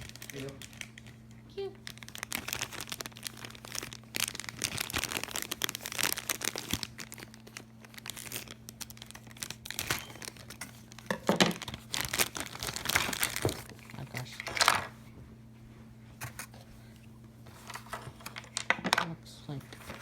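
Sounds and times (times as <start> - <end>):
packaging crinkling and tearing: 0.0 - 14.9, 17.5 - 18.8, 19.7 - 20.0.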